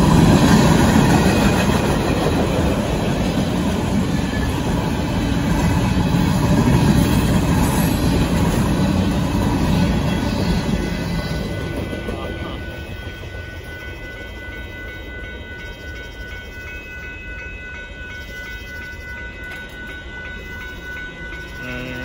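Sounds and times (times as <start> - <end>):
crossing warning bell ringing: 0.0 - 22.0
train cars rumbling on rails: 0.0 - 22.0.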